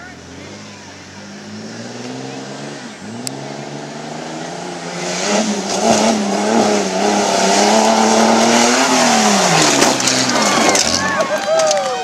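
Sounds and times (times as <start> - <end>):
engine revving at high revs: 0.0 - 11.0.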